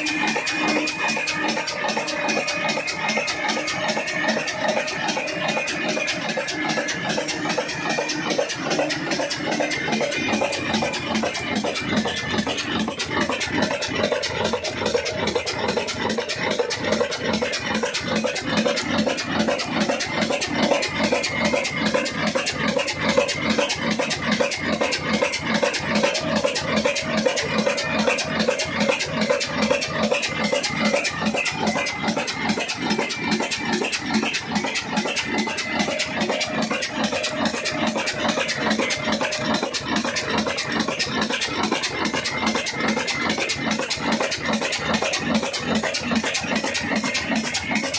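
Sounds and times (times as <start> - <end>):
diesel engine knocking: 0.0 - 47.9.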